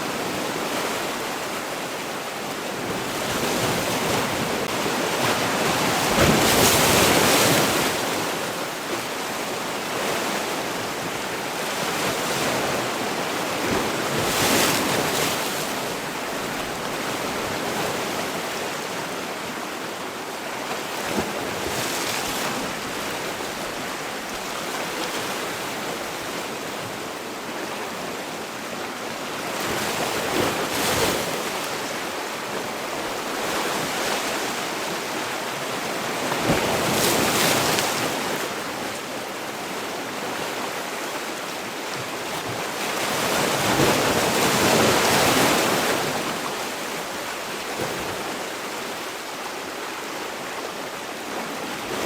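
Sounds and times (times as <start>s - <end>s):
sea waves breaking: 0.0s - 19.6s, 20.8s - 52.0s.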